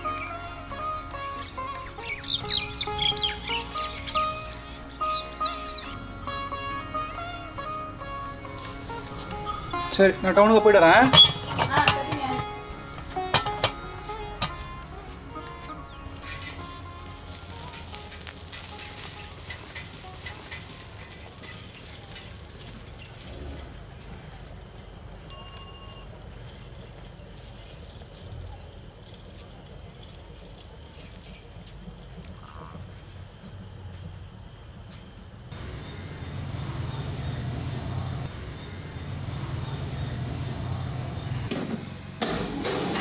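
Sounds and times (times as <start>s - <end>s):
crickets and insects trilling: 2.0s - 41.5s.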